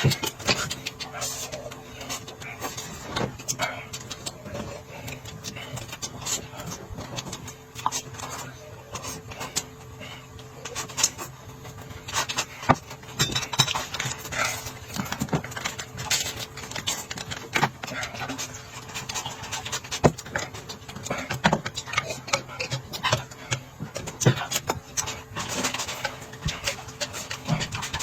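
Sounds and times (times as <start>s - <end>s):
crunchy chewing: 0.0s - 28.0s.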